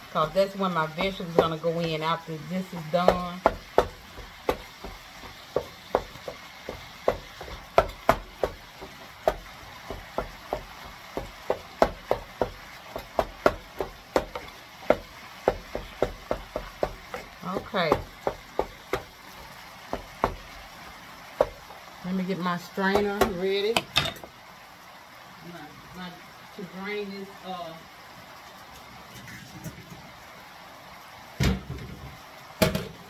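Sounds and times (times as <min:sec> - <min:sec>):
faint frying sizzle: 0:00.0 - 0:33.0.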